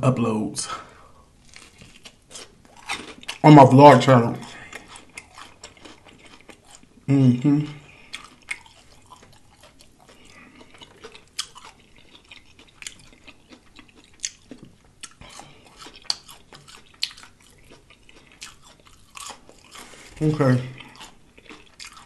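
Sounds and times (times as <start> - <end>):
close-up chewing with mouth clicks: 1.5 - 7.0, 7.6 - 22.0.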